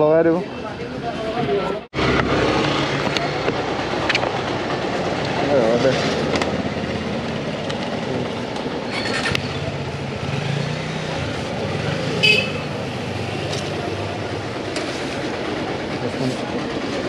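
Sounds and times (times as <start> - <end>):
train rumbling past: 2.0 - 12.1, 12.7 - 17.0.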